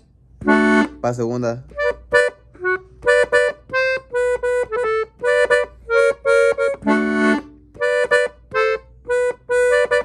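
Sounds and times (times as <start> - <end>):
button accordion notes: 0.4 - 10.0.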